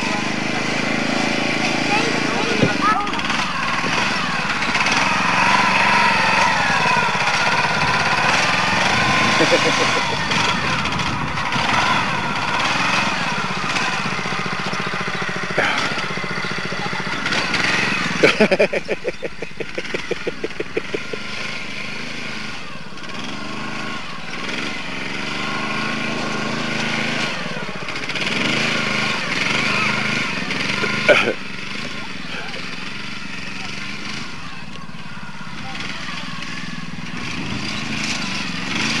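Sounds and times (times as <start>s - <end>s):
quick engine pulses: 0.0s - 39.0s
small petrol engine running: 0.0s - 39.0s.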